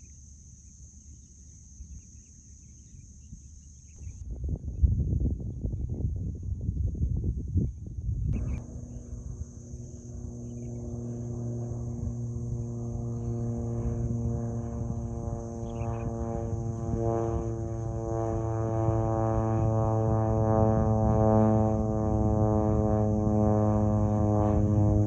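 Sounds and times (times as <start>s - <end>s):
aircraft propeller engine hum: 0.0s - 25.0s.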